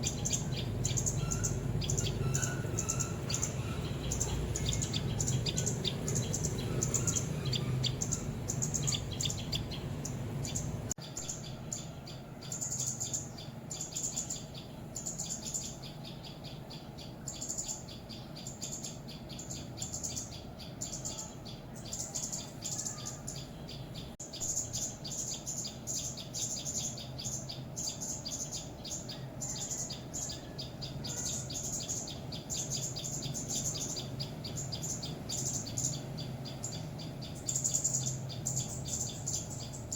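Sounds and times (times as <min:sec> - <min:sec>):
songbirds alarm chirps: 0:00.0 - 0:39.9
steady low hum: 0:00.0 - 0:39.9.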